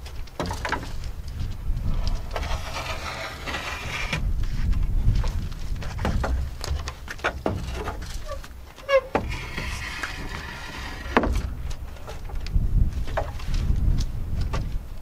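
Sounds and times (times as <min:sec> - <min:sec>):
timber knocks and clatter: 0:00.0 - 0:12.4, 0:13.0 - 0:14.7.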